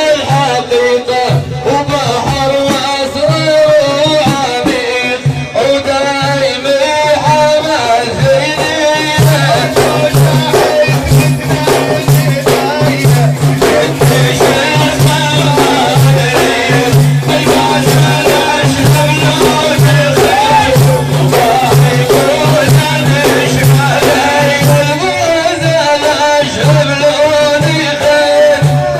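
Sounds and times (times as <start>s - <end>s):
frame drums: 0.0s - 28.9s
man chanting: 0.0s - 28.9s.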